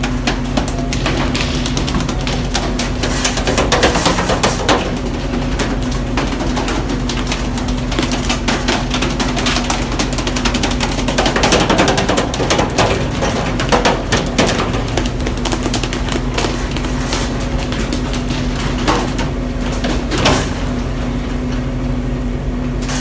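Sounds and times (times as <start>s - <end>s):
rapid clatter of knocks: 0.0s - 21.7s.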